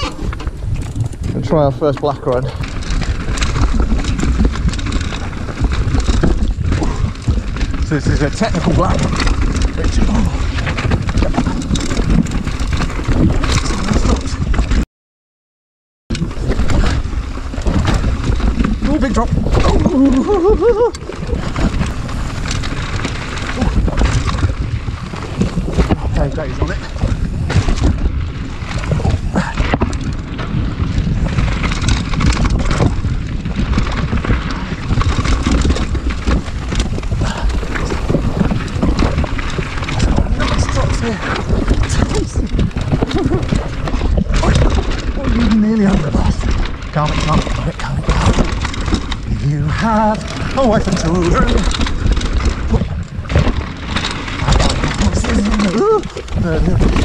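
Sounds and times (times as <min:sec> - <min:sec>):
mountain bike rattling on trail: 0:00.0 - 0:14.8, 0:16.1 - 0:57.0
tyres rumbling on loose stones: 0:00.0 - 0:14.8, 0:16.1 - 0:57.0
wind rushing over microphone: 0:00.0 - 0:14.8, 0:16.1 - 0:57.0.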